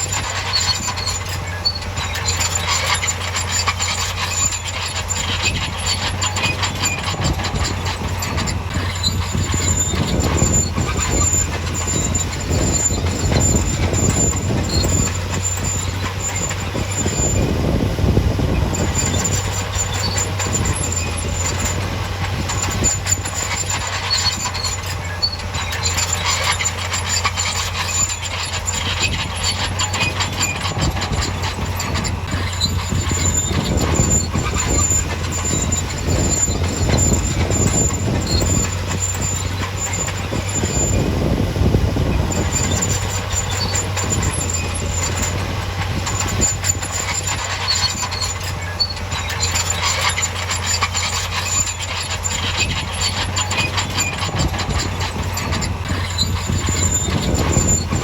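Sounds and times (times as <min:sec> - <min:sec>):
bulldozer diesel engine drone: 0:00.0 - 0:58.0
steel tracks clattering and squealing: 0:00.0 - 0:58.0.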